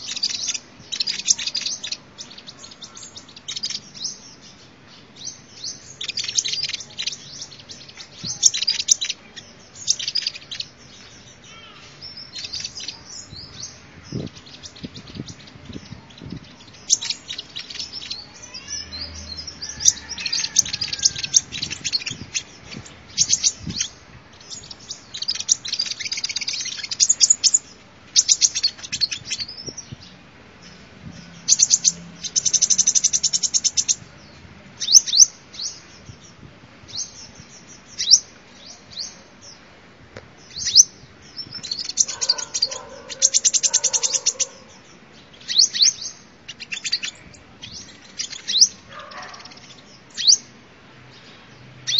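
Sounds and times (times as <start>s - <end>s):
bird chirping and trilling: 0.0s - 39.6s, 40.4s - 51.3s.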